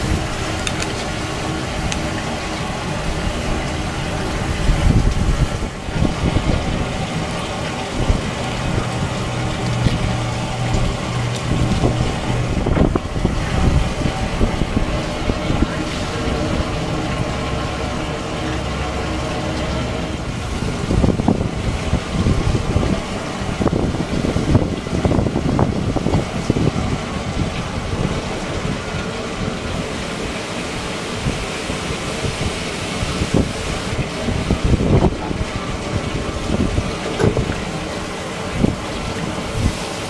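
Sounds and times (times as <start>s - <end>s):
steady hum: 0.0s - 40.0s
wind buffeting microphone: 0.0s - 40.0s.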